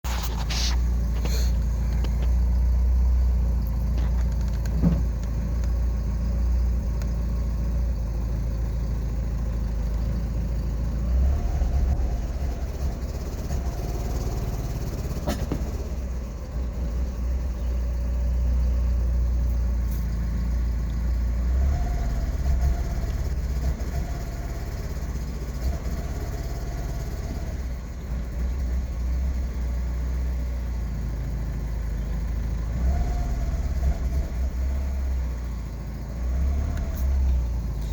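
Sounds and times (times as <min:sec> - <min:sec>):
car engine rumbling: 0:00.0 - 0:37.9.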